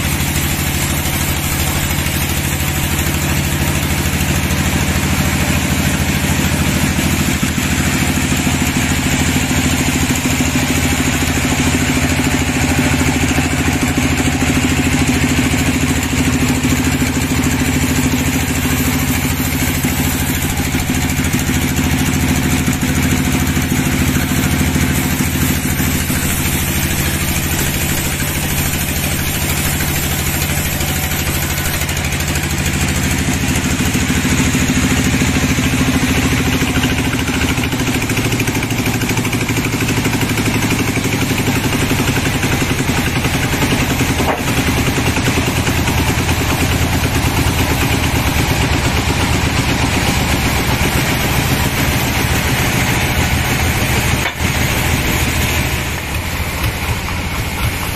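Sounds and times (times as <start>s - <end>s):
band saw running: 0.0s - 57.9s.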